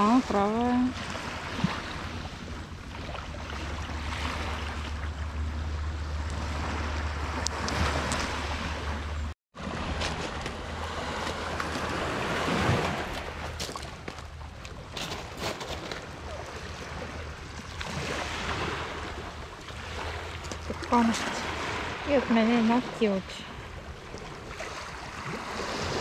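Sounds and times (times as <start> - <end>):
sea surf breaking on shore: 0.0 - 13.6, 15.3 - 26.0.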